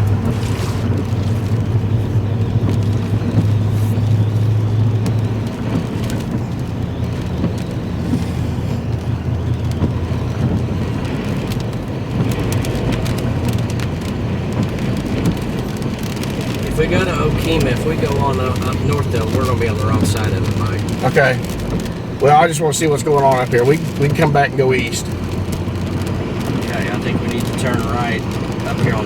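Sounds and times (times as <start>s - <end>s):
vehicle engine and road drone: 0.0s - 29.0s.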